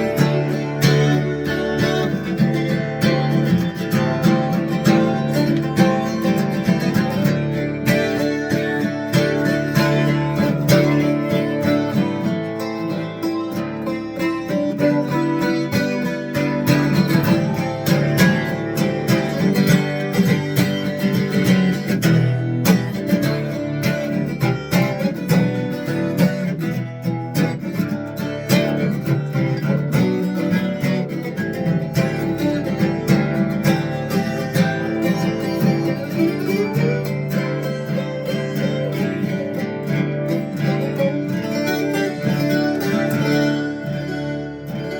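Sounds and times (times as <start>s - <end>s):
twelve-string acoustic guitar: 0.0s - 44.9s.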